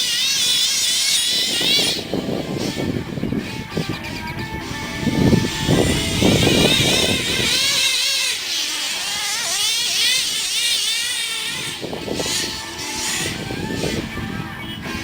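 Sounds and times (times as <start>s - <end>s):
model car engine screaming: 0.0s - 15.0s.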